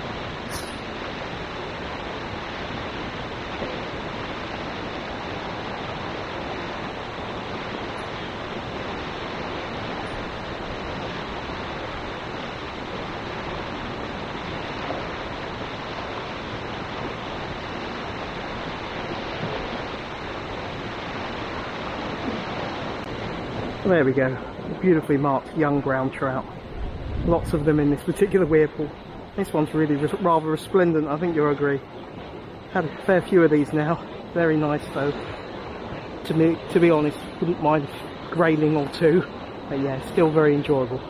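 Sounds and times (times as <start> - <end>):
water rushing over a weir: 0.0 - 41.0.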